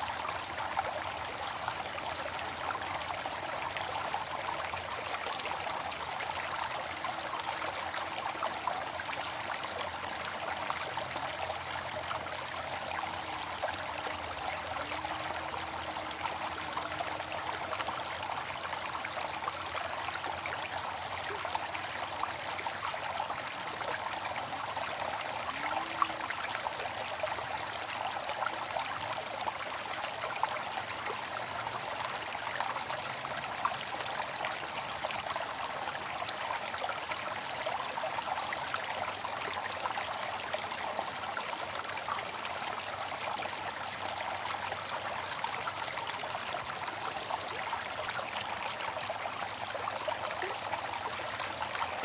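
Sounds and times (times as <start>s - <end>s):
water fountain splashing: 0.0s - 52.0s.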